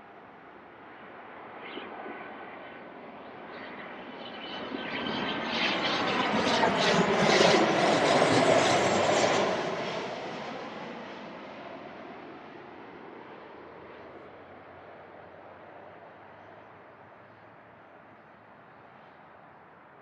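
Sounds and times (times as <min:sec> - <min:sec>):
jet engines passing on landing: 0:00.1 - 0:20.0.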